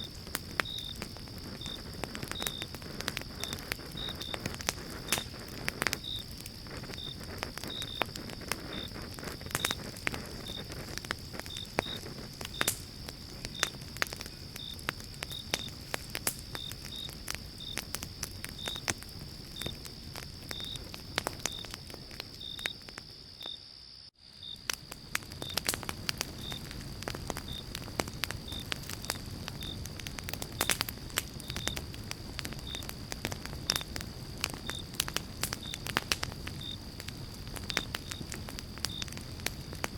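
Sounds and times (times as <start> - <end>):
campfire crackling and popping: 0.0 - 23.6, 24.2 - 39.9
crickets chirping: 0.0 - 39.9.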